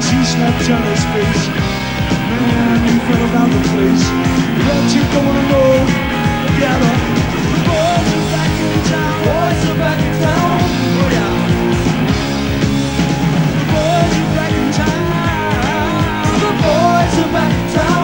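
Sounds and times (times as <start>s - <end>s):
hard rock band playing live: 0.0s - 18.0s
lead electric guitar bent notes: 0.0s - 18.0s.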